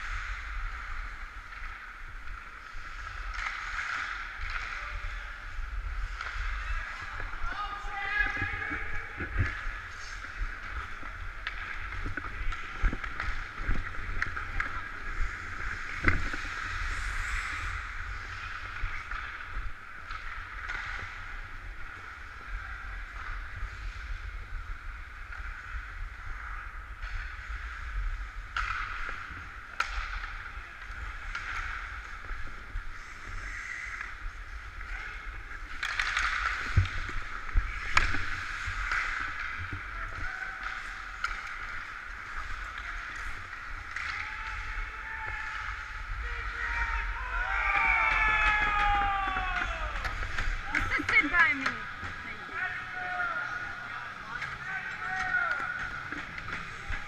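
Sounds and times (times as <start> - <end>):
skates scraping on ice: 0.0 - 57.0.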